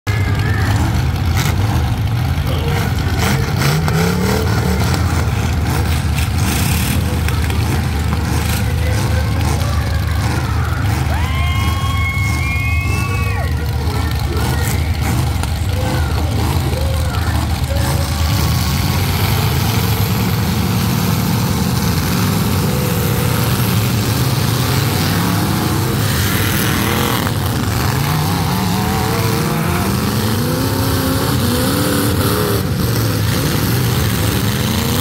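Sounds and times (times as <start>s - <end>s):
truck engines rumbling: 0.0s - 35.0s.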